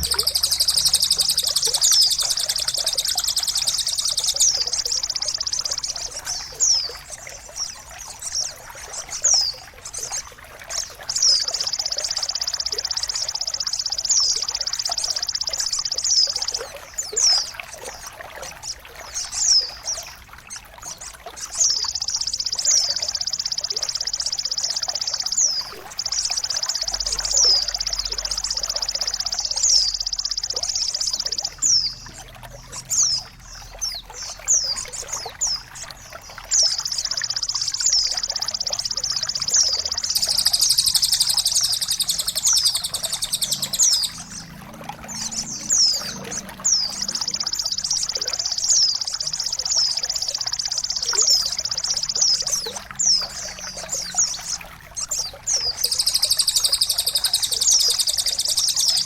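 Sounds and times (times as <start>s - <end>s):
songbird trilling and chirping: 0.0s - 10.2s, 10.8s - 17.5s, 20.9s - 32.2s, 32.8s - 59.0s
faint trickle of water: 0.0s - 59.0s.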